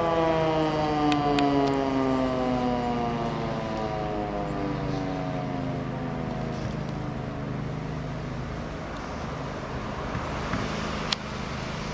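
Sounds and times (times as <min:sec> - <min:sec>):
fire sirens winding down: 0:00.0 - 0:11.9
low car hum: 0:00.0 - 0:11.9.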